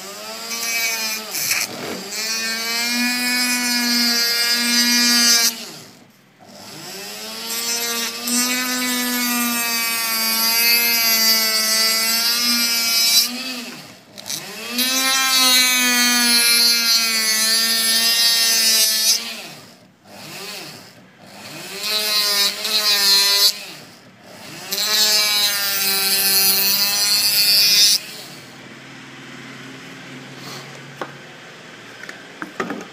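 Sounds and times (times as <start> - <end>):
small motor whining: 0.0 - 28.7.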